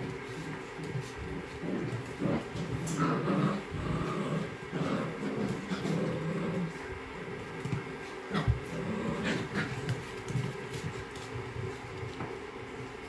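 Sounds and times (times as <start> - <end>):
dogs growling: 0.0 - 12.3
paws scuffling on tiled floor: 0.0 - 13.0.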